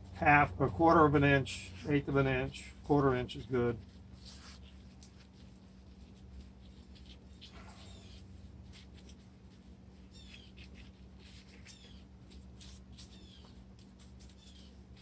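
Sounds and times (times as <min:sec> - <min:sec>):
steady low hum: 0:00.0 - 0:15.0
hands rubbing wet cement: 0:00.2 - 0:15.0.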